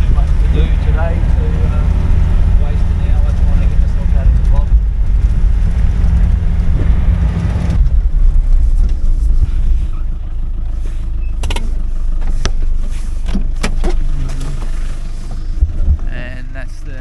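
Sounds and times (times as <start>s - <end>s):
vehicle engine rumbling: 0.0s - 17.0s
vehicle knocking and rattling: 0.0s - 17.0s.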